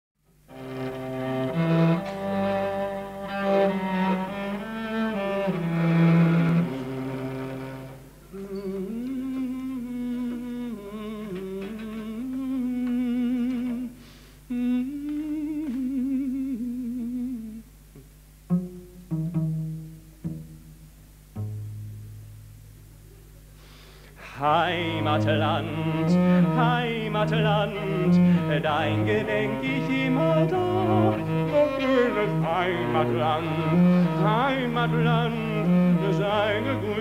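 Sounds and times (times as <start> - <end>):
cello bowed melody: 0.5 - 13.9, 18.0 - 22.8, 24.4 - 37.0.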